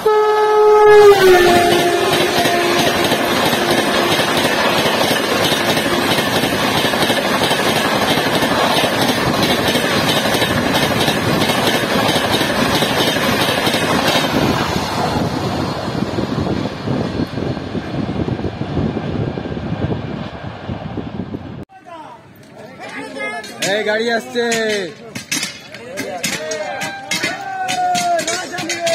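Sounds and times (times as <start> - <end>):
train wheels rushing on rails: 0.8 - 21.6, 23.4 - 28.9.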